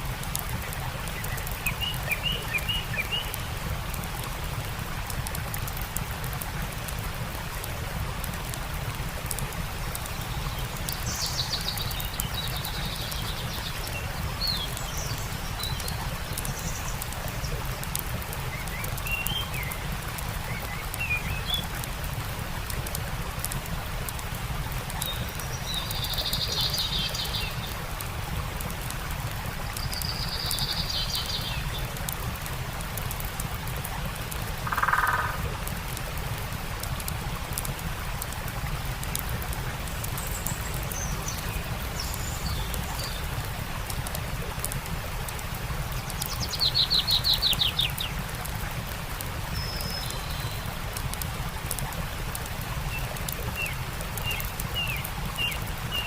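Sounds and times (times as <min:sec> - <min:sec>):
campfire crackling: 0:00.0 - 0:56.0
stream water rushing: 0:00.0 - 0:56.0.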